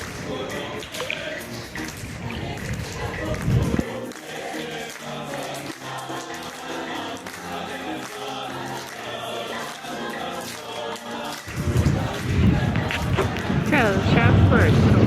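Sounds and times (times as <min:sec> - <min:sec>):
choir-like background music: 0:00.0 - 0:15.0.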